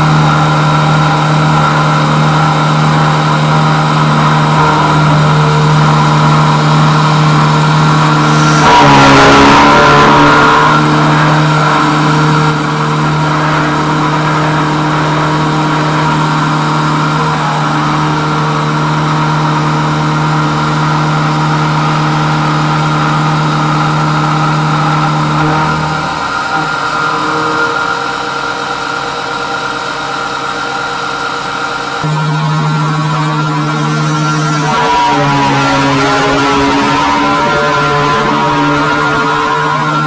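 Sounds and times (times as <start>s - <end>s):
milling machine spindle whine: 0.0s - 40.0s.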